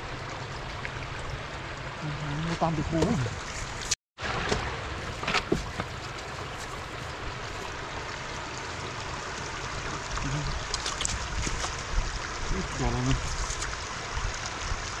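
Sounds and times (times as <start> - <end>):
floodwater rushing over a road: 0.0 - 15.0.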